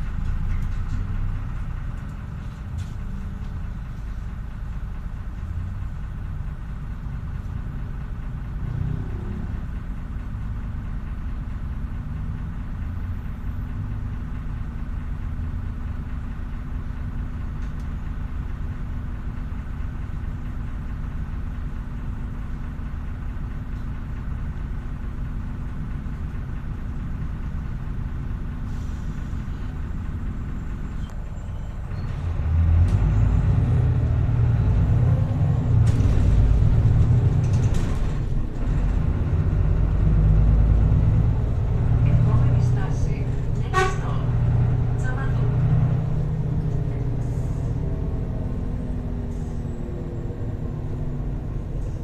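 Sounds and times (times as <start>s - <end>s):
bus diesel engine idling: 0.0s - 52.0s.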